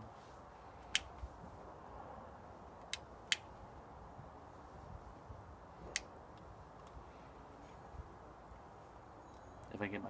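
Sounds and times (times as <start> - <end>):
wind rumble on microphone: 0.0 - 2.8, 3.4 - 8.8.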